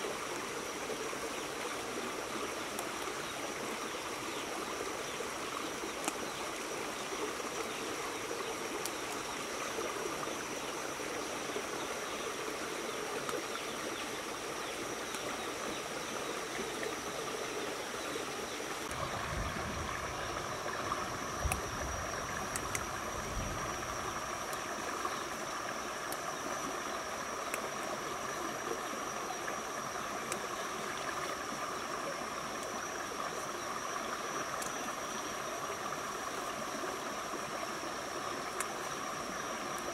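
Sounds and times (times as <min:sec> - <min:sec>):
shallow stream running: 0:00.0 - 0:39.9.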